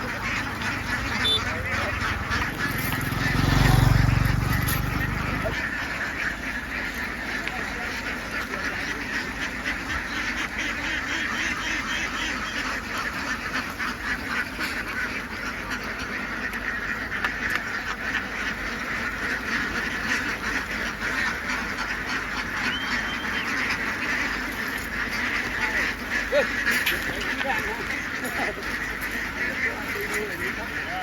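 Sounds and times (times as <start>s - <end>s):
flock of ducks quacking: 0.0s - 31.0s.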